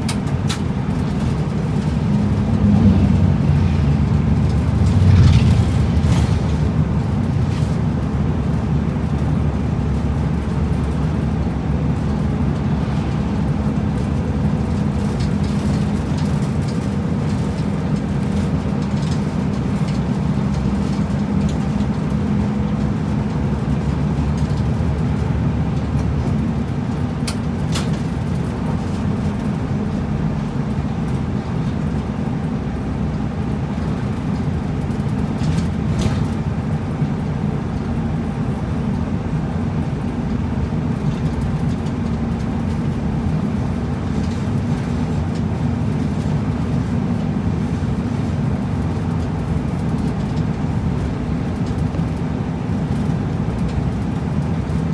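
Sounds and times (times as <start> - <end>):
bus engine drone: 0.0 - 54.9
tyre and road noise: 0.0 - 54.9.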